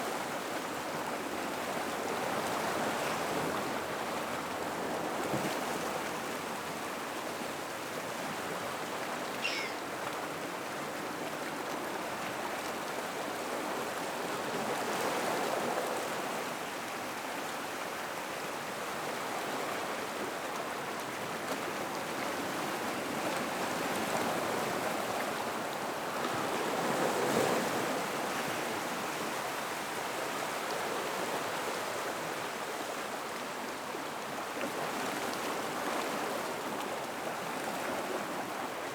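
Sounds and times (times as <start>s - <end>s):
gentle ocean waves: 0.0s - 38.9s.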